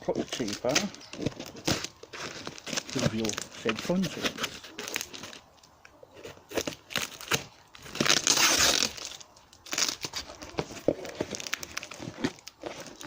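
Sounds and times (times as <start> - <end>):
cardboard rustling: 0.1 - 5.4, 6.1 - 13.0
packaging crinkling: 0.2 - 13.0
packing tape ripping: 0.3 - 5.6, 6.2 - 13.0.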